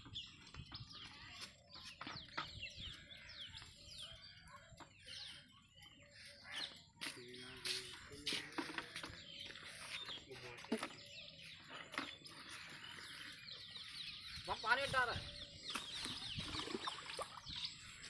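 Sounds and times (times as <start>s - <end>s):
birds chirping: 0.0s - 18.0s
lower bird call with steady tones: 0.0s - 18.0s.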